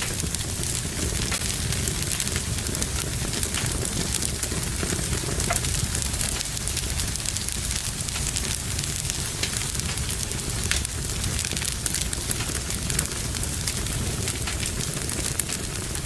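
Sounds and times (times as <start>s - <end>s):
fire crackling and popping: 0.0s - 16.0s
low rush of flame: 0.0s - 16.0s.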